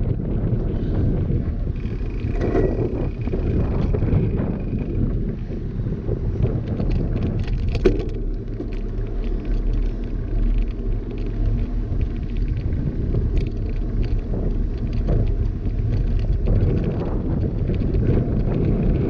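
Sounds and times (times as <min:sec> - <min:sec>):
bicycle tyres on asphalt: 0:00.0 - 0:19.0
bike ticks and rattles: 0:00.0 - 0:19.0
wind buffeting microphone: 0:00.0 - 0:19.0.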